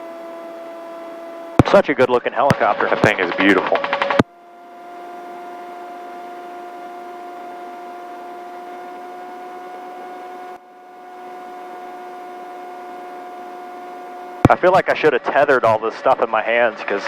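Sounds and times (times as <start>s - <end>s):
helicopter turbine whine: 0.0s - 17.0s.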